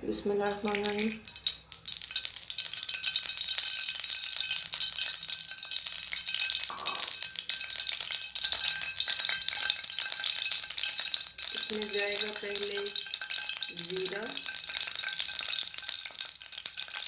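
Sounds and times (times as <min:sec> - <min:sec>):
oil crackling and popping: 0:00.2 - 0:17.0.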